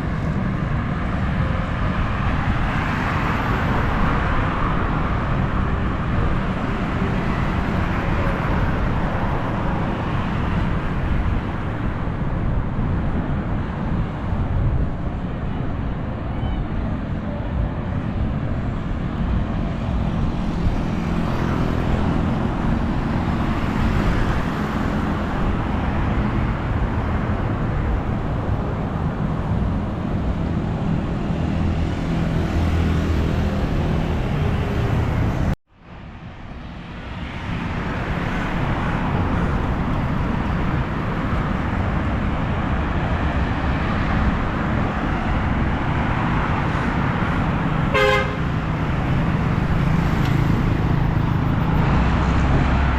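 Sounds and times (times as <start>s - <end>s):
road traffic passing cars: 0.0s - 52.9s.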